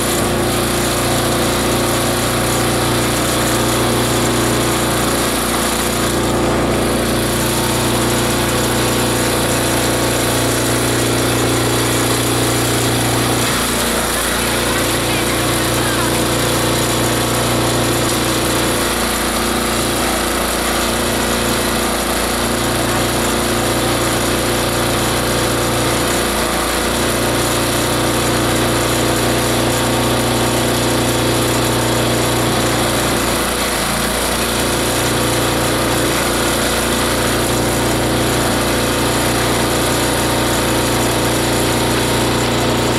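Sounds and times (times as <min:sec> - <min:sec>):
shredder machine grinding: 0:00.0 - 0:42.9.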